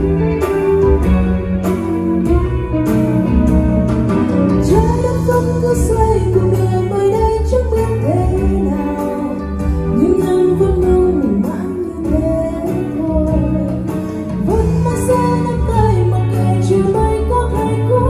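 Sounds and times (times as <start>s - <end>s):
song with guitar and bass: 0.0s - 18.0s.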